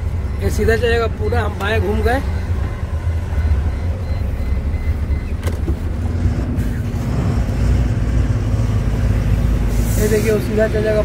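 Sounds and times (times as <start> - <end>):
road noise: 0.0 - 11.0
truck diesel engine rumble: 0.0 - 11.0.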